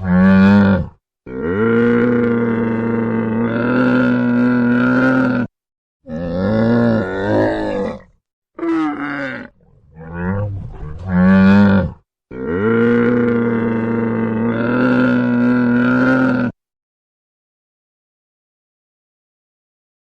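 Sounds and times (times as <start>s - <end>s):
large animal deep calls: 0.0s - 16.5s.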